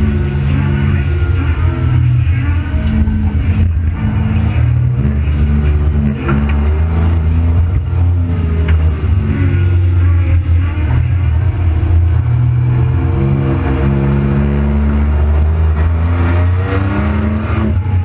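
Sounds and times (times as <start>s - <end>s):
car engine revving from cabin: 0.0s - 18.0s.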